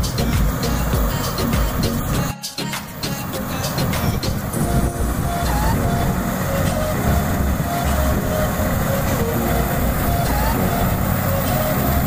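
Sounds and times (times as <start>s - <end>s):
combine harvester machinery din: 0.0s - 12.0s.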